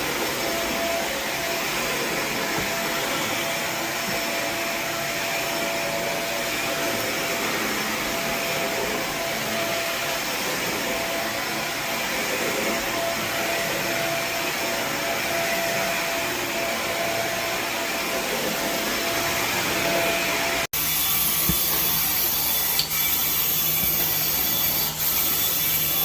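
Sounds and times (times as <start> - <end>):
steam cleaning wand suction: 0.0 - 26.0.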